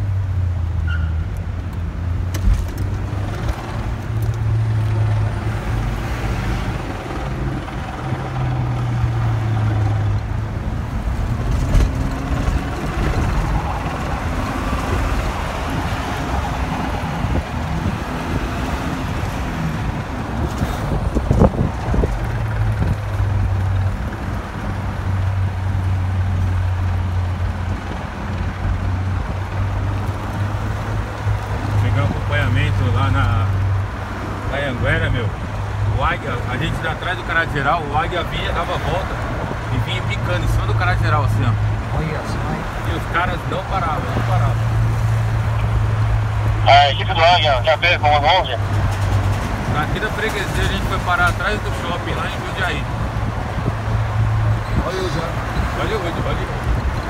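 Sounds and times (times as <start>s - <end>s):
road noise: 0.0s - 57.0s
vehicle engine drone: 0.0s - 57.0s.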